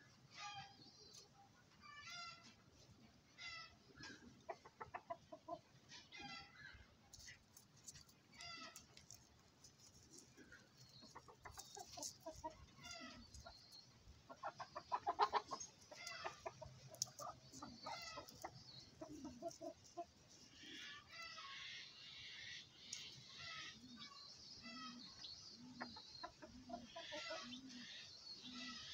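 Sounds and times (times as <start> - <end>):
chicken clucking: 0.3 - 28.9.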